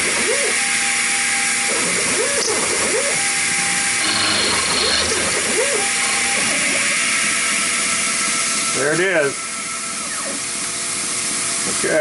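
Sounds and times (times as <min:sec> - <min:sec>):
milling machine whining: 0:00.0 - 0:11.8.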